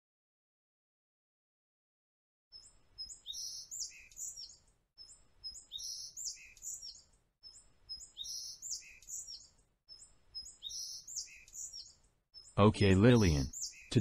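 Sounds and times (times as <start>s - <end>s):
bird chirps and whistles: 2.6s - 13.9s.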